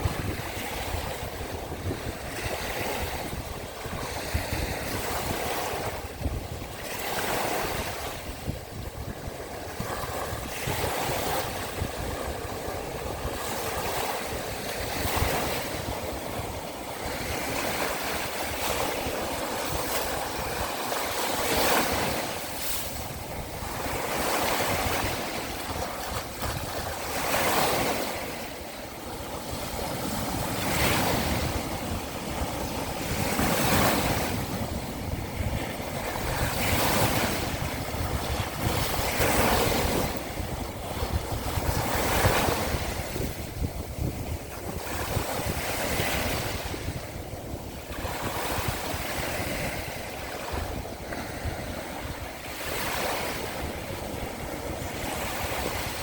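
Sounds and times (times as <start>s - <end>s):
small sea waves breaking: 0.0s - 56.0s.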